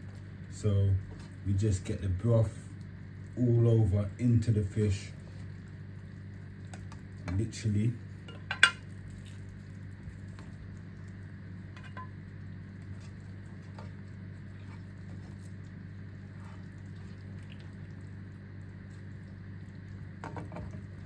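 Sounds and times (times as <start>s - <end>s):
broth simmering with pops: 0.0s - 21.0s
steady low hum: 0.0s - 21.0s.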